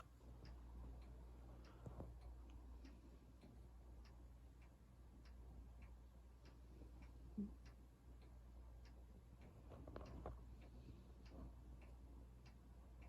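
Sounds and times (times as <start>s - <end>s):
clock ticking: 0.0s - 13.0s
faint low hum: 0.0s - 13.0s.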